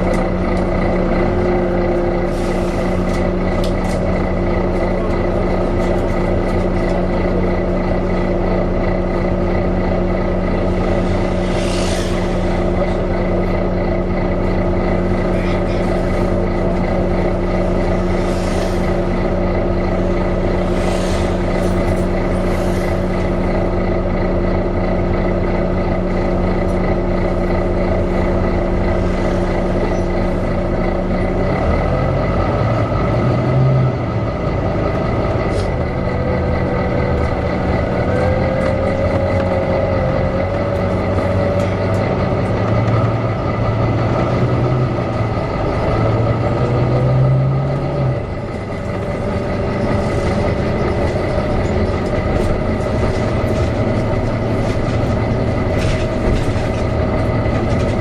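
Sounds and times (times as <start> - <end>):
bus cooling fan whine and hum: 0.0 - 58.0.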